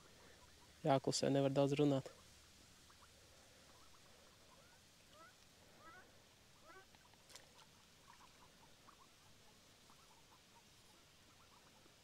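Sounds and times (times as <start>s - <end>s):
ducklings peeping: 0.0s - 0.9s, 1.8s - 12.0s
background hiss: 0.0s - 12.0s.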